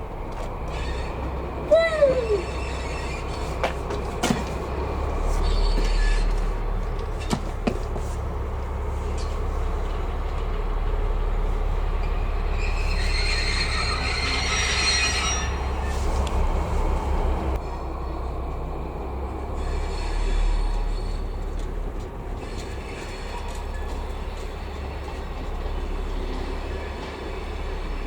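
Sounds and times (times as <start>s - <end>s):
diesel locomotive rumble: 0.0s - 28.0s
wheels squealing on rails: 0.0s - 28.0s.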